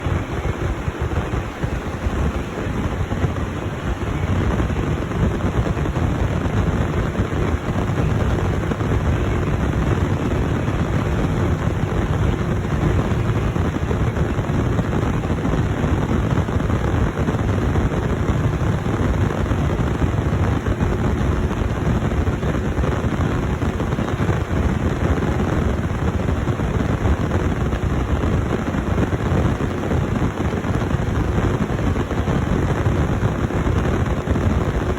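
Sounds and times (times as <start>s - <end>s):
diesel machinery rumbling: 0.0s - 34.2s.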